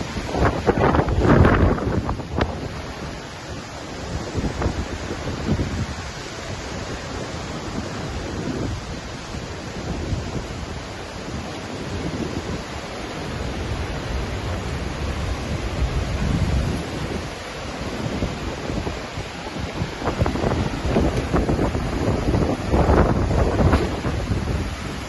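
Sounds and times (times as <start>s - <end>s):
waterfall rushing: 0.0s - 25.0s
wind buffeting microphone: 0.0s - 25.0s.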